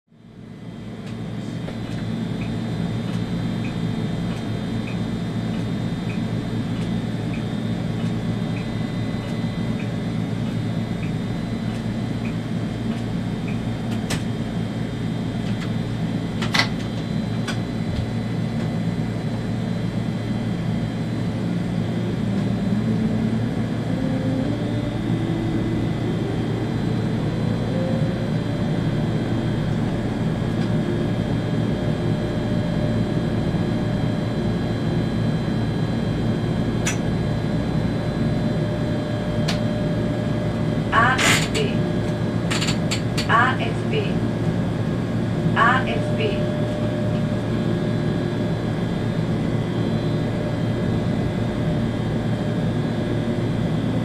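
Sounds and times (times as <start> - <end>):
train electric hum: 0.1 - 54.0
rising traction drive whine: 0.2 - 54.0.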